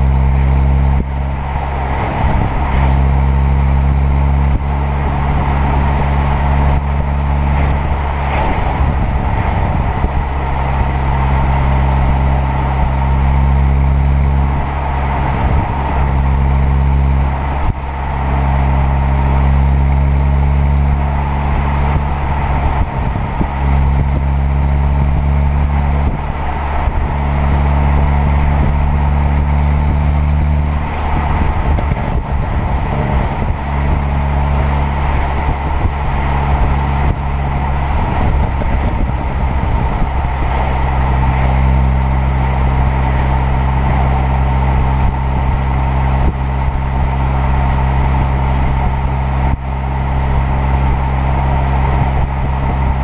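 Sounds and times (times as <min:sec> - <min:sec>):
car engine and exhaust: 0:00.0 - 0:53.0
exhaust crackling: 0:00.0 - 0:53.0.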